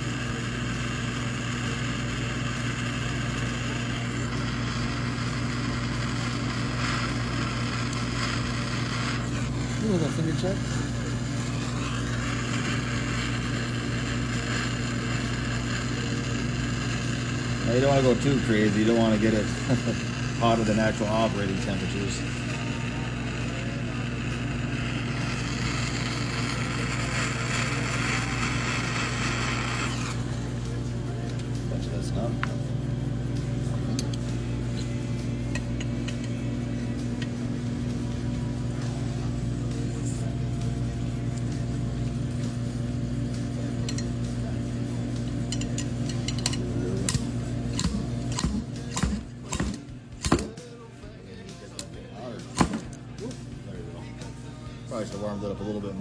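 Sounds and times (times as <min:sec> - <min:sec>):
heating tool hissing: 0:00.0 - 0:50.6, 0:52.4 - 0:53.0
electric blower running: 0:00.0 - 0:50.8, 0:52.2 - 0:56.0
low mechanical hum: 0:00.0 - 0:56.0.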